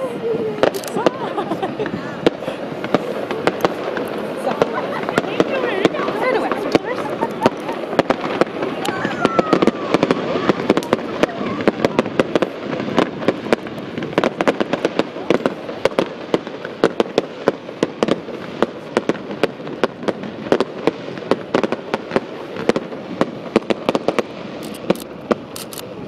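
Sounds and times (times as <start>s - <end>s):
continuous noisy background: 0.0s - 26.0s
fireworks bangs and crackles: 0.0s - 26.0s.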